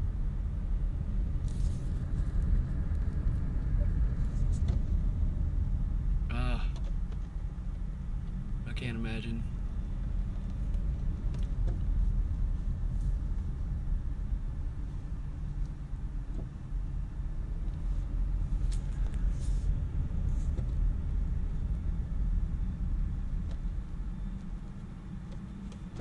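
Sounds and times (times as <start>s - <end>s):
car cabin road and engine rumble: 0.0s - 26.0s.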